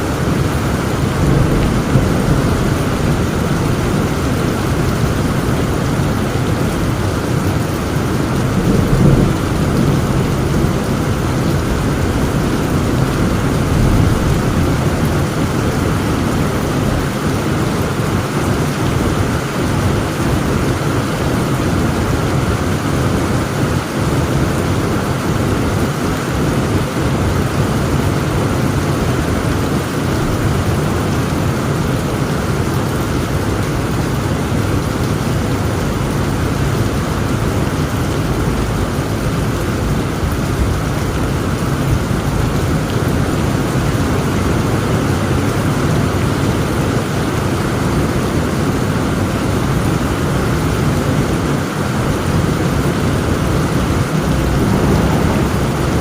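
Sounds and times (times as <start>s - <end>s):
low thunder rumble: 0.0s - 28.6s, 29.2s - 56.0s
heavy rain: 0.0s - 56.0s.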